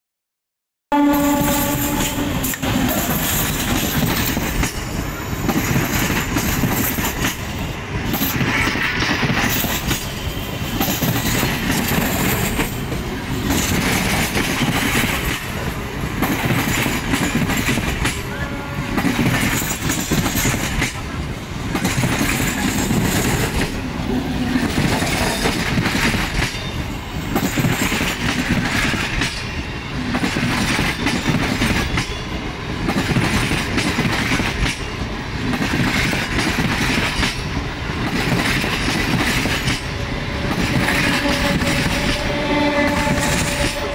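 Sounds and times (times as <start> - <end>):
train wheels clattering on rails: 1.1 - 43.9.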